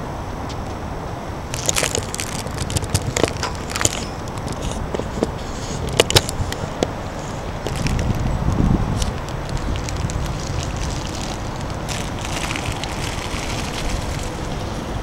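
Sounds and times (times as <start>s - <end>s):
wind rumble on microphone: 0.0s - 15.0s
sharp crackling clicks: 1.5s - 6.9s, 7.5s - 14.6s.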